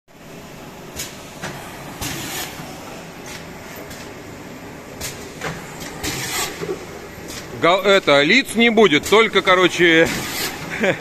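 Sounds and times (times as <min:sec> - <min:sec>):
printing machine rumbling: 0:00.1 - 0:11.0.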